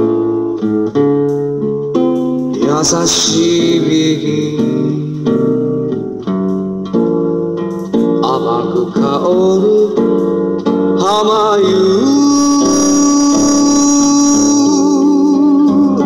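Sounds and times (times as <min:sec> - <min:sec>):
slow guitar ballad: 0:00.0 - 0:16.0.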